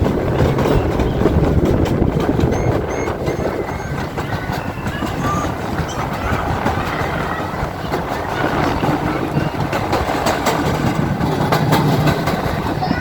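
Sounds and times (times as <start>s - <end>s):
train wheels rumbling on track: 0.0s - 13.0s
wheels clicking on rails: 0.0s - 13.0s.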